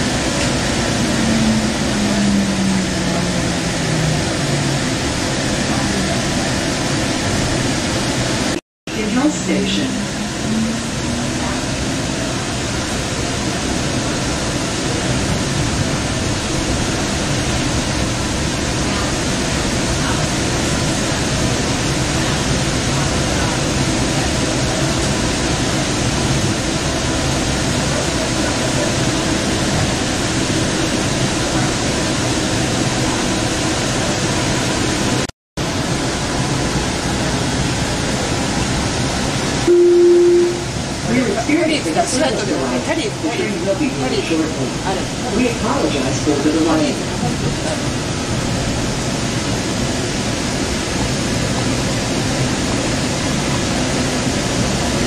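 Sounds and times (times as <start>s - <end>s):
light rail car rumbling: 0.0s - 55.0s.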